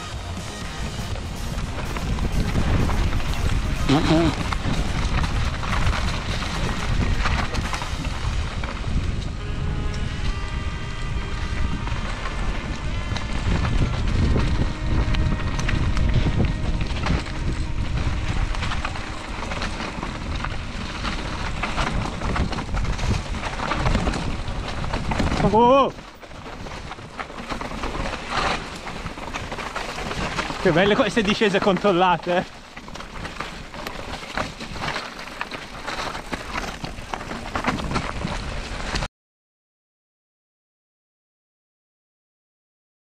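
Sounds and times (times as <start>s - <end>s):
bike clicks and rattles: 0.0s - 39.1s
bike tyres rolling on dirt: 0.0s - 39.1s
wind buffeting microphone: 0.6s - 39.1s.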